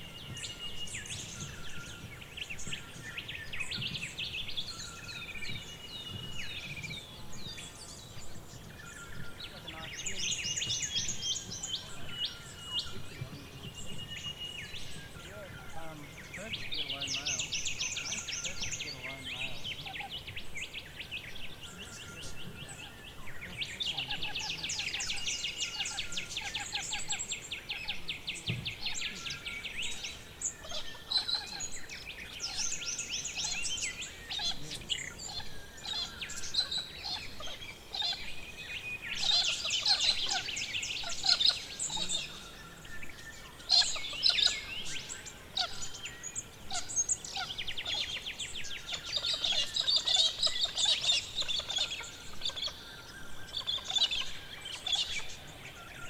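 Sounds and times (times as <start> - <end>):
forest birds singing: 0.0 - 56.0.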